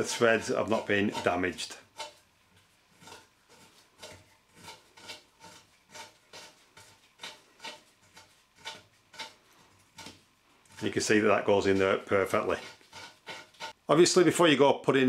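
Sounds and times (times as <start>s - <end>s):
bolt threading rasping scrapes: 0.0s - 13.8s.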